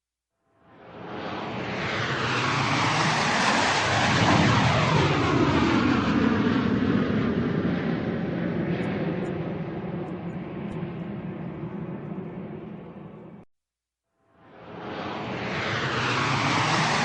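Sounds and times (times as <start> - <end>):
airplane flying past overhead: 0.6 - 13.4, 14.3 - 17.0.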